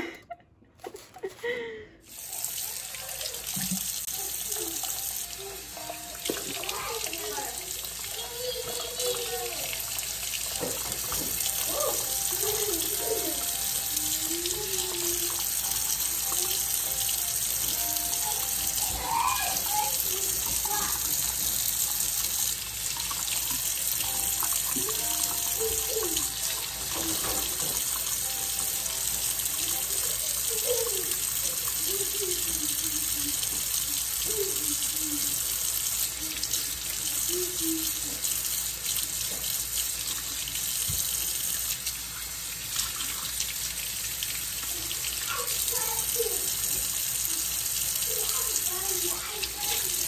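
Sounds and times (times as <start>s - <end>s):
faucet running into a sink: 2.1s - 50.0s.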